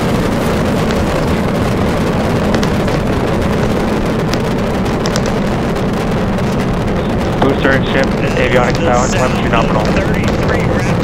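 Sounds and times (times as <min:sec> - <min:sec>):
rocket engines rumbling: 0:00.0 - 0:11.0.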